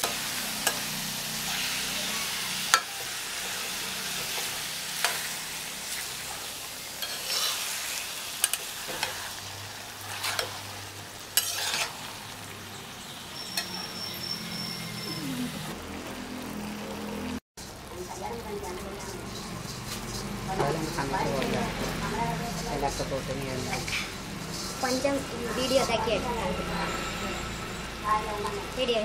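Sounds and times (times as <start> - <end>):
metal spatula scraping a pan: 0.0 - 15.0, 17.6 - 28.0
vegetables sizzling in a pan: 0.0 - 29.0.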